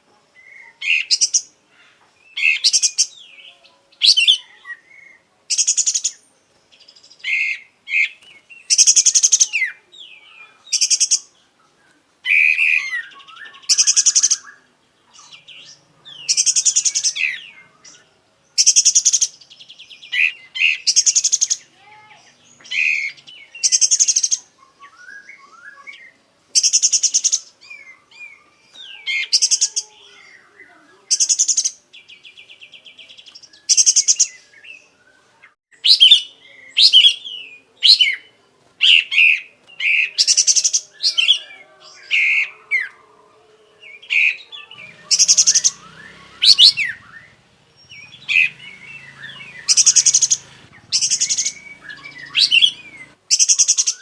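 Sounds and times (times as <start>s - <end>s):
bulbul singing trills and whistles: 0.4s - 43.0s, 43.7s - 54.0s.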